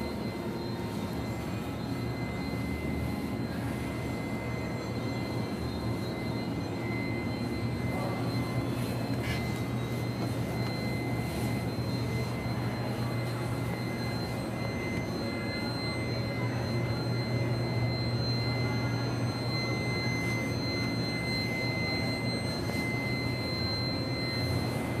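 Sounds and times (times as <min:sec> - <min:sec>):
exhibition hall din: 0:00.0 - 0:25.0
thin high whine: 0:00.0 - 0:25.0.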